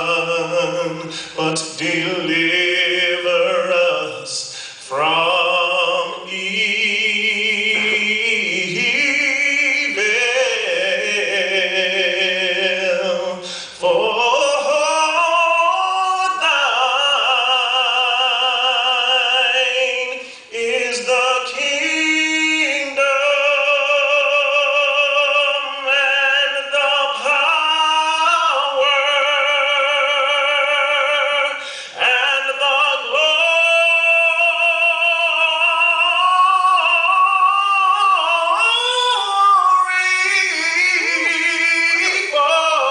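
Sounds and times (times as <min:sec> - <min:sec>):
person singing with vibrato: 0:00.0 - 0:42.9.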